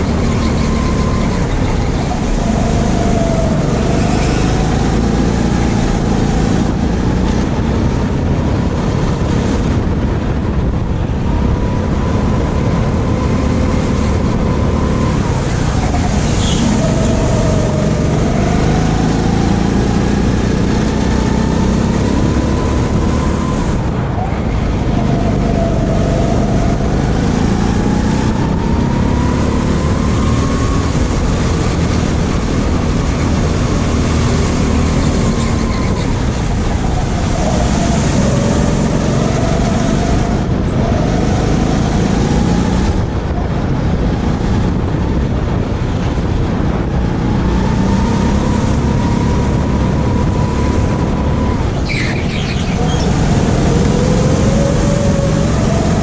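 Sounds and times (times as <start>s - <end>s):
go-kart engine rumble: 0.0s - 56.0s.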